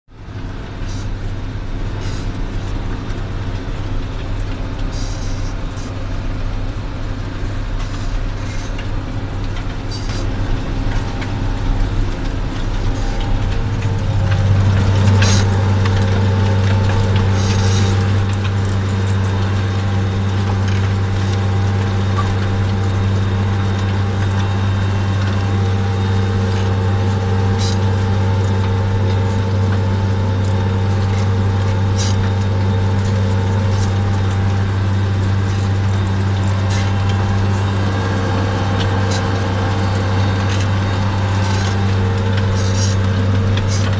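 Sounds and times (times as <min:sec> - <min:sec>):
tractor diesel engine drone: 0:00.0 - 0:43.9.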